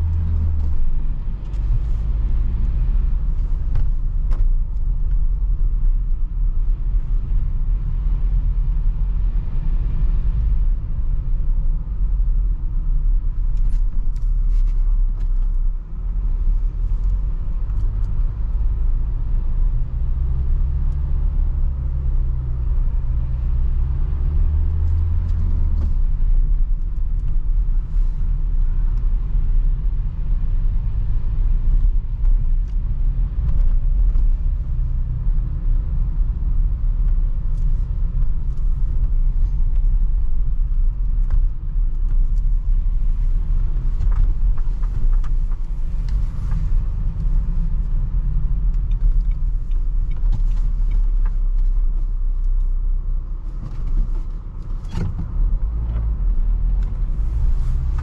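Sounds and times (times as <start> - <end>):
tyre road noise: 0.0 - 58.0
van engine rumble: 0.0 - 58.0.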